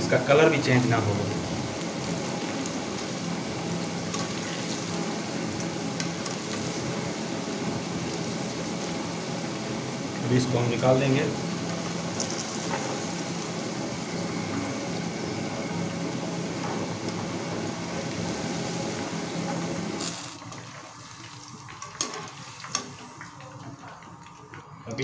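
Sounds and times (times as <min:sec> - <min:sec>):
vegetables sizzling in hot oil: 0:00.0 - 0:24.0
faint oil bubbling: 0:01.1 - 0:25.0.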